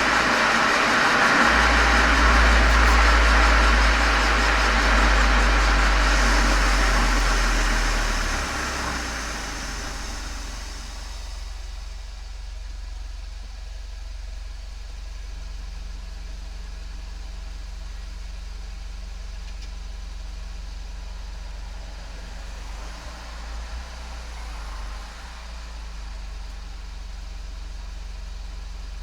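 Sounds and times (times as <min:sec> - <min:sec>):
car exhaust droning at low revs: 0:00.0 - 0:29.0.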